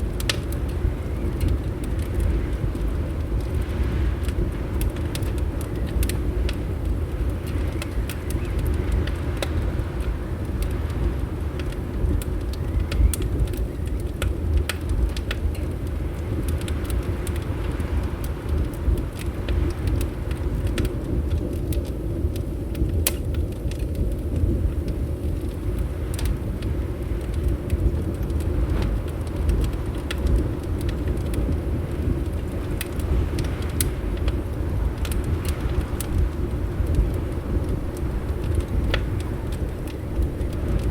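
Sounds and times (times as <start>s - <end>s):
fire crackling and popping: 0.0s - 40.9s
low rumble of wind: 0.0s - 40.9s.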